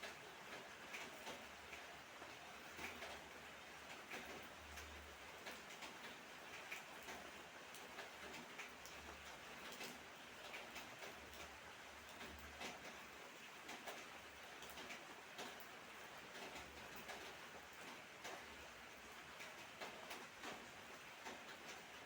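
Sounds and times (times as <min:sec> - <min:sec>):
light rain hiss: 0:00.0 - 0:22.0
raindrops ticking on hard surface: 0:00.0 - 0:22.0.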